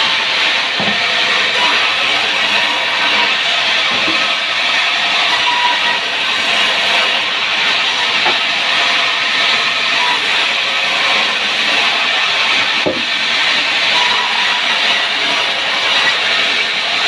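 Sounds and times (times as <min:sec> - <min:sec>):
power saw cutting timber: 0:00.0 - 0:17.0.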